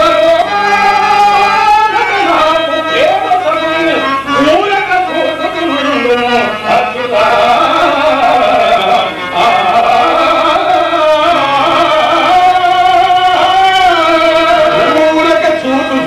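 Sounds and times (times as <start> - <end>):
man singing long wavering notes: 0.0 - 16.0.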